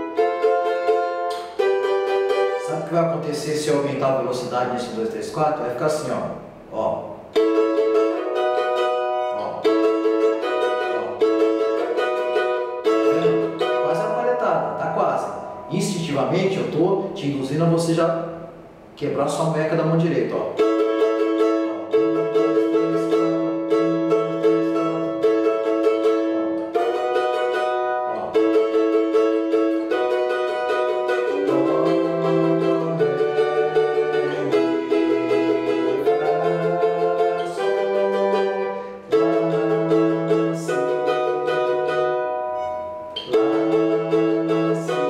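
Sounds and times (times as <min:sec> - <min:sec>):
cavaquinho strumming: 0:00.0 - 0:45.0.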